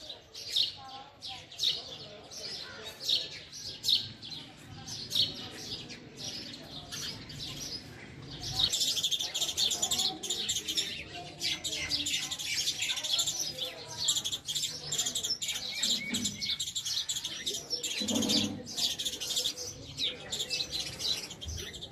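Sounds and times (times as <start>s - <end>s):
sparrows chirping: 0.0s - 21.9s.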